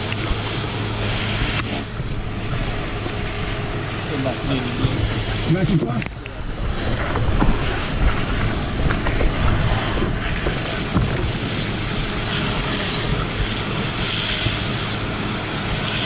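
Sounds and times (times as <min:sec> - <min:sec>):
low rumble: 0:00.0 - 0:14.6
fire hose spraying water: 0:00.0 - 0:16.0.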